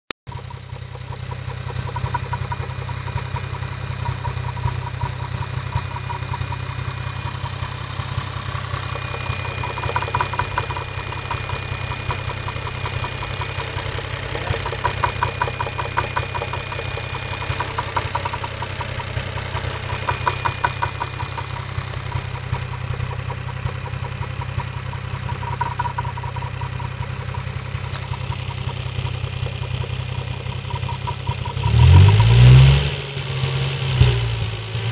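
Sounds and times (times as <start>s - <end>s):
engine knocking: 0.3s - 33.4s
car engine idling: 0.3s - 34.9s.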